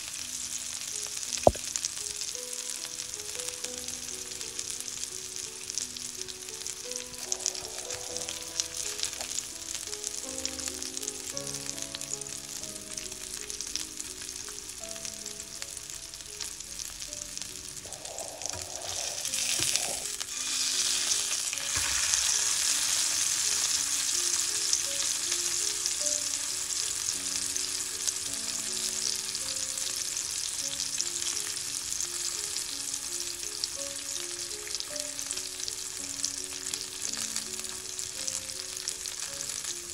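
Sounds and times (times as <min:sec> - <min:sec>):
soft background music: 0:00.0 - 0:39.9
steak sizzling in frying pan: 0:00.0 - 0:39.9.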